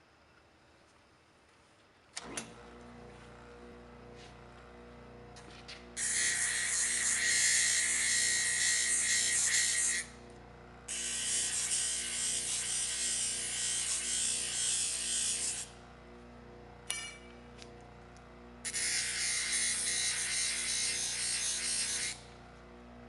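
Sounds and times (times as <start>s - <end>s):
band saw whirring: 2.2s - 23.0s.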